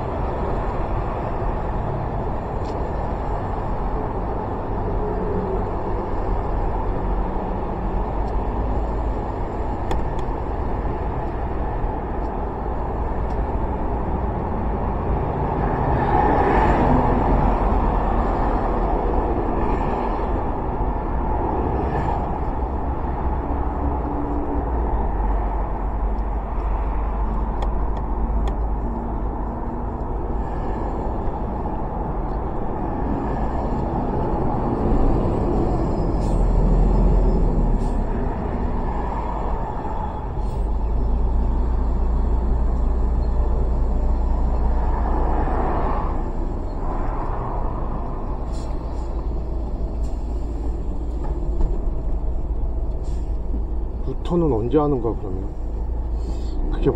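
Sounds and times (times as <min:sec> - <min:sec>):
traffic: 0:00.0 - 0:56.9.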